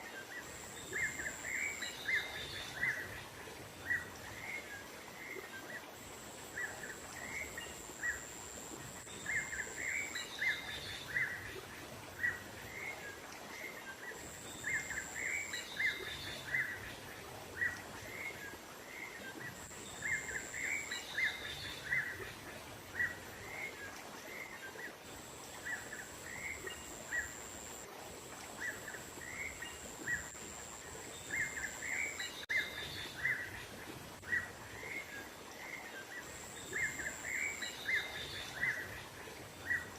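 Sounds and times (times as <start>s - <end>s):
thin steady high tone: 0.0s - 35.3s.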